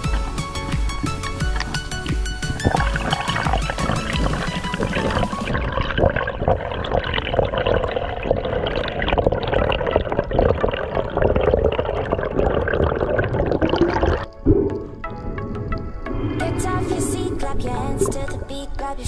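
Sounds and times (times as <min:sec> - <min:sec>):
muffled underwater sloshing and bubbling: 0:00.0 - 0:19.0.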